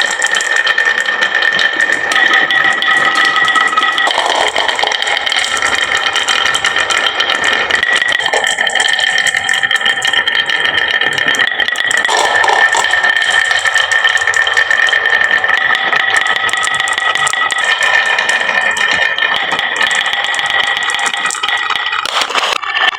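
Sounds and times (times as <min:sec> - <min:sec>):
high ringing: 0:00.0 - 0:22.0
marbles clattering down wooden run: 0:00.0 - 0:22.9.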